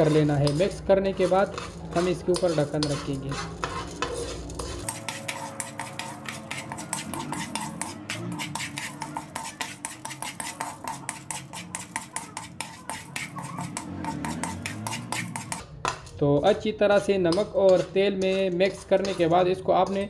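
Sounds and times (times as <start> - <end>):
metal spoon scraping a wok: 0.0 - 16.2, 16.9 - 20.0.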